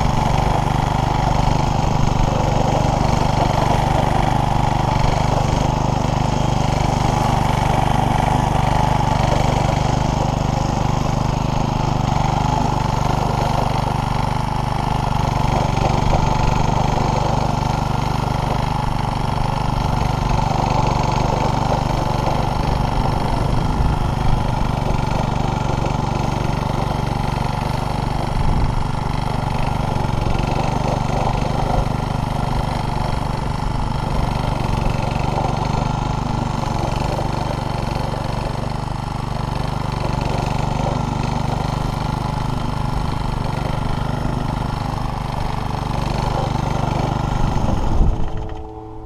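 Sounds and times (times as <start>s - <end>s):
string trimmer engine running: 0.0s - 49.0s
trimmer line cutting grass: 0.0s - 49.0s.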